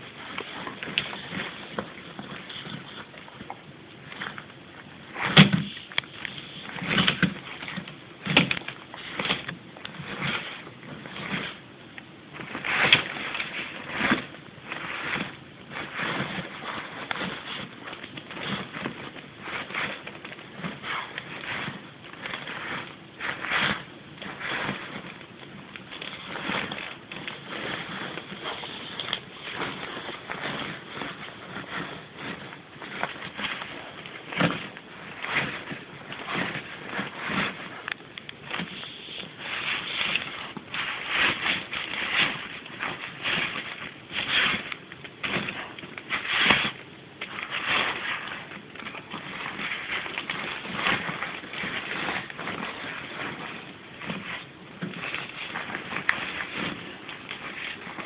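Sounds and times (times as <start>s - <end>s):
blanket rustling in wicker basket: 0.0s - 58.0s.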